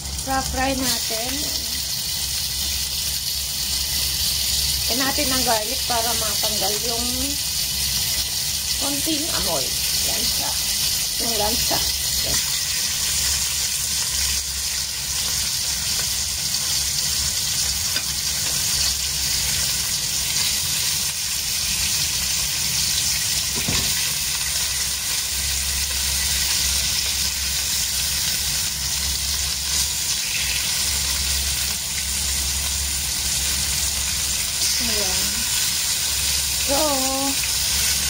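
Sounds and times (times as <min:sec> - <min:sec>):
fish frying in oil sizzling: 0:00.0 - 0:38.0.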